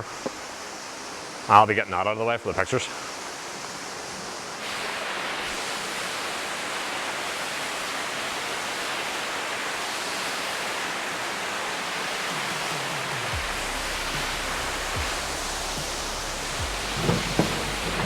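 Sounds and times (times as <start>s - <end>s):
waterfall pouring: 2.3s - 18.0s.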